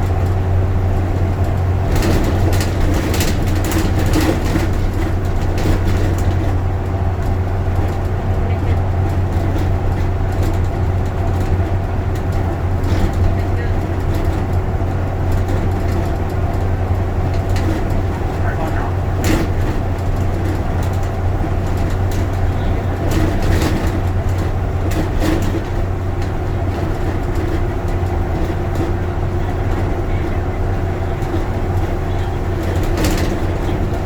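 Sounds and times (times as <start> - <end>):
bus engine and road drone: 0.0 - 34.0
short rattles and clicks: 1.1 - 34.0.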